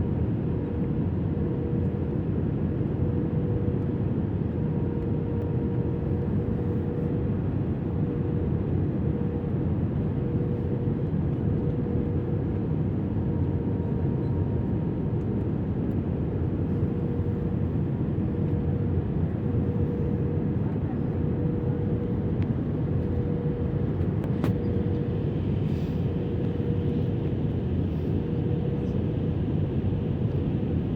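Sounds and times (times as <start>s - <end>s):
engine and airflow rumble: 0.0s - 30.9s
faint constant hum: 0.0s - 30.9s.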